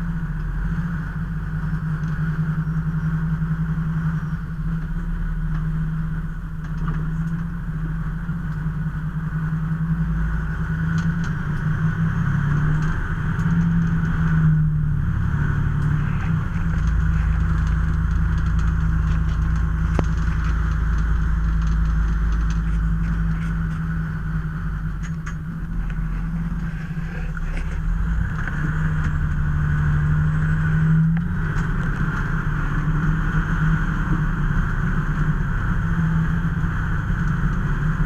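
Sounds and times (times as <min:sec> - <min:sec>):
road noise: 0:00.0 - 0:38.0
vehicle engine drone: 0:00.0 - 0:38.0.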